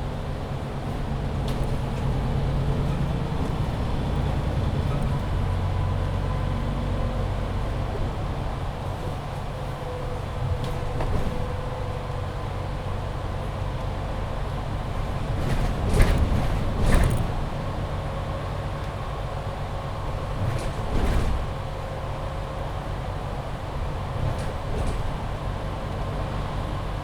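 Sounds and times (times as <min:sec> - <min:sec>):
bus engine rumble: 0:00.0 - 0:27.0.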